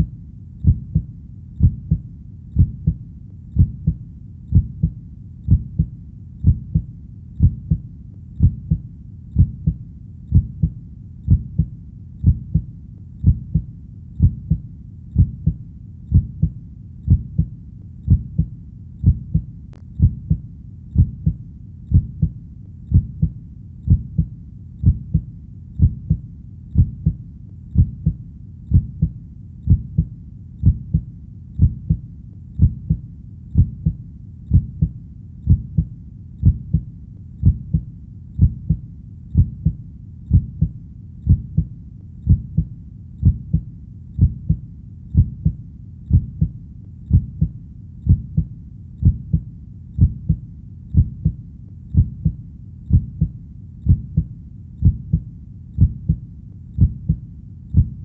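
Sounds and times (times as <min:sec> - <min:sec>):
heartbeat: 0:00.0 - 0:58.0.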